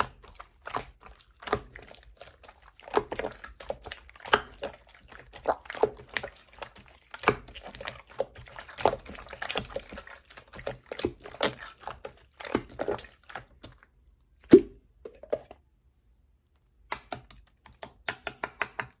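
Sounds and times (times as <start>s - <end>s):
slime squelching and clicking: 0.0s - 13.9s, 16.9s - 18.9s.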